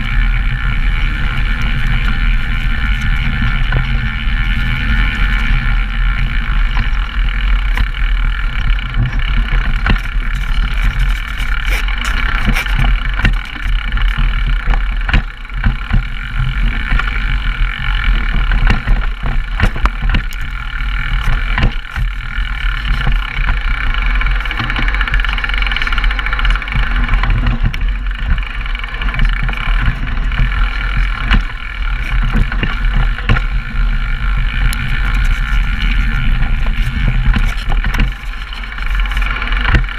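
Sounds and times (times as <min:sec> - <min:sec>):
bike knocks and rattles: 0:00.0 - 0:39.9
bike tyres on dirt: 0:00.0 - 0:39.9
wind rumbling on microphones: 0:00.0 - 0:39.9.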